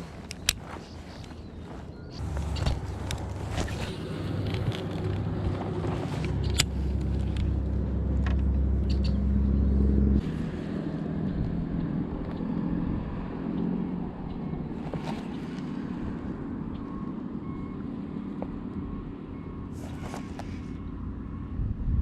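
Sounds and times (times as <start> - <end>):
motorboat engine humming: 0.0 - 21.7
lighter wavering engine hum: 0.0 - 22.0.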